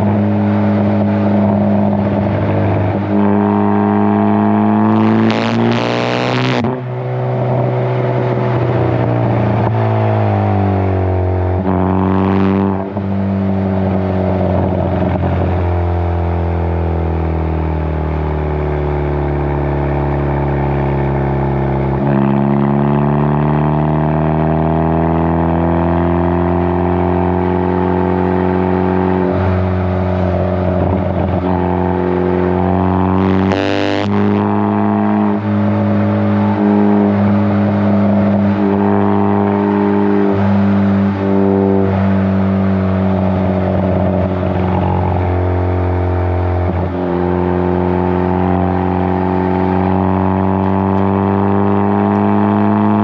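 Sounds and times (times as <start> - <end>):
car exhaust note while driving: 0.0 - 53.0.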